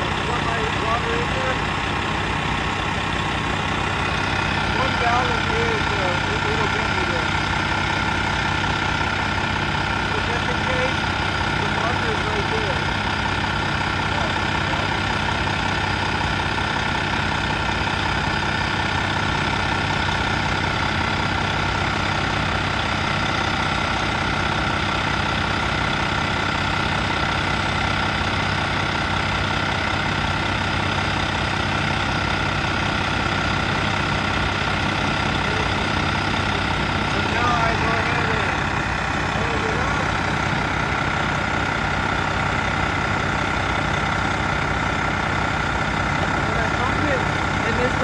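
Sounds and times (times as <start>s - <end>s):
diesel truck engine idling: 0.0s - 48.0s.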